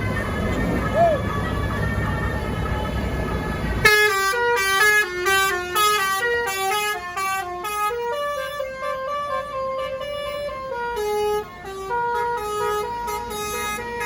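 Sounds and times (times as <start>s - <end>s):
engine and traffic rumble: 0.0s - 14.0s
multi-tone bus horn melody: 0.0s - 14.0s.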